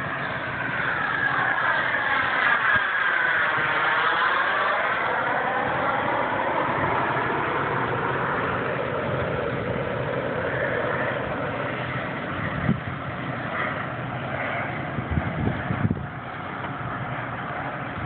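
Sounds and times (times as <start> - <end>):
model jet engine roar: 0.0 - 18.0.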